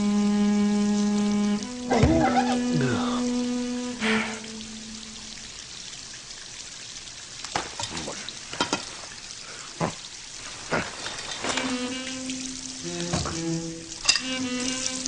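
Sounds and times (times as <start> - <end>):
running water hissing: 0.0 - 15.0.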